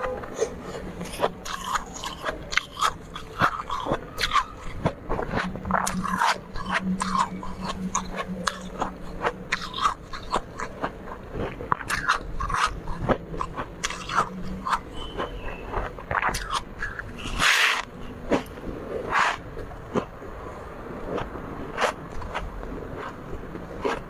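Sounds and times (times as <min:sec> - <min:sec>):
chewing and crunching frost: 0:00.0 - 0:24.0.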